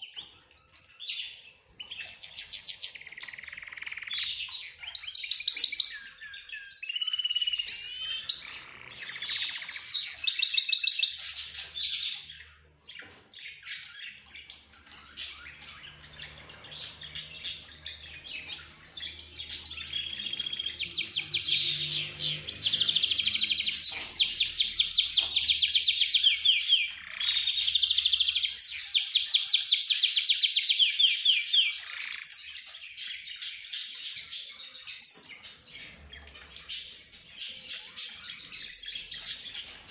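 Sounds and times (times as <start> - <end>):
cage birds chirping and singing: 0.0 - 39.9.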